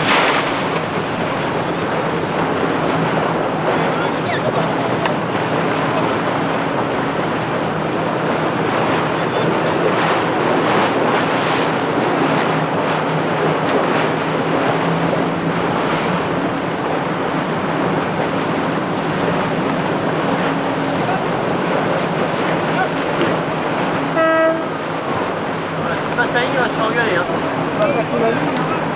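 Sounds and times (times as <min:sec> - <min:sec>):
rushing water and waves: 0:00.0 - 0:28.9
wind buffeting microphone: 0:00.0 - 0:28.9.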